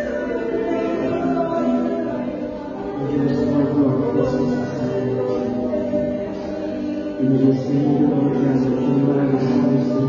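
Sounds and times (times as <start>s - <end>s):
keyboard and guitars holding chord: 0.0s - 10.0s
voices holding long notes: 0.0s - 10.0s.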